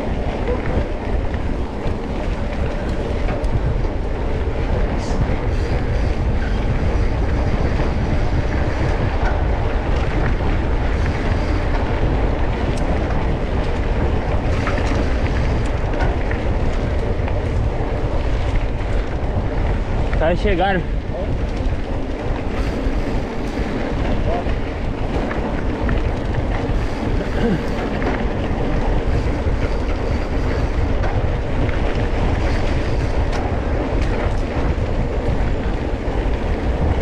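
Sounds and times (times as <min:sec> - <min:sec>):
off-road vehicle engine rumble: 0:00.0 - 0:37.0
vehicle rattling: 0:00.0 - 0:37.0.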